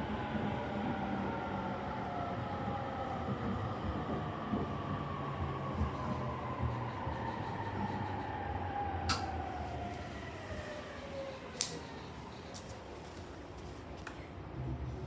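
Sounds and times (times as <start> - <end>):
low train running rumble: 0.0 - 15.0.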